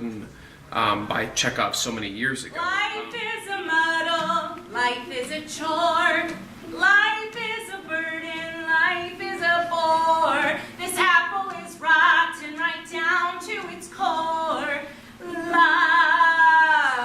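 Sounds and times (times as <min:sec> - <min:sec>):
voices singing show tune: 0:02.5 - 0:17.0.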